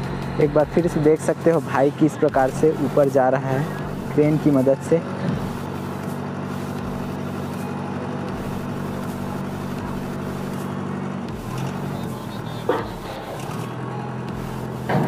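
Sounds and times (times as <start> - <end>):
diesel crane engine running: 0.0 - 15.0.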